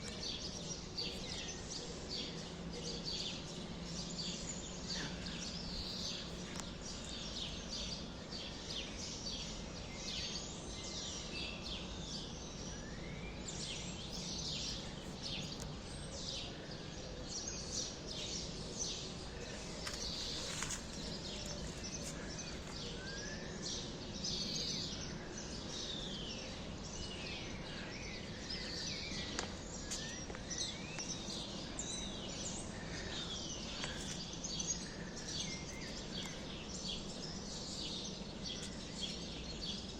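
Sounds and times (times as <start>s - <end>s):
flock of birds chirping: 0.0s - 39.9s
low background hum: 0.0s - 39.9s.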